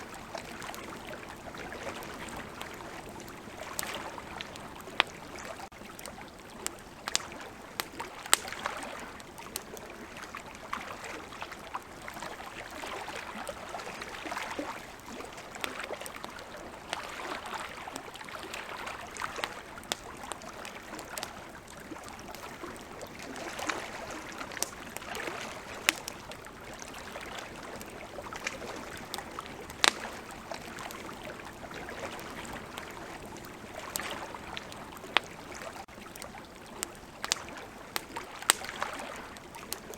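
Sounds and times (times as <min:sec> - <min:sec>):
campfire crackling and popping: 0:00.0 - 0:39.9
flowing river water: 0:00.0 - 0:39.9.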